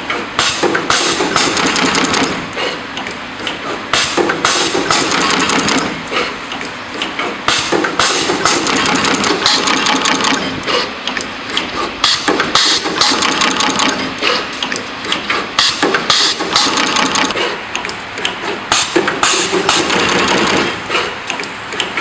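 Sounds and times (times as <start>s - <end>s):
machine clatter and clicks: 0.0s - 22.0s.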